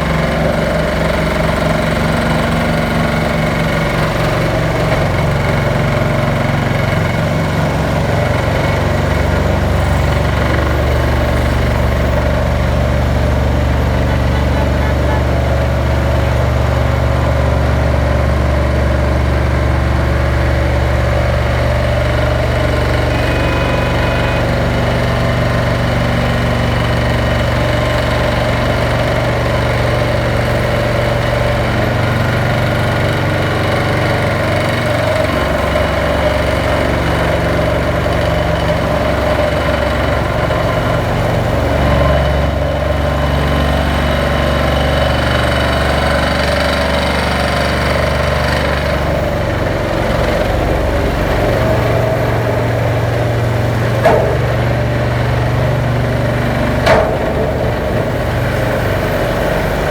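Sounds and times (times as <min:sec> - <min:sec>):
heavy machinery engine humming: 0:00.0 - 0:59.9.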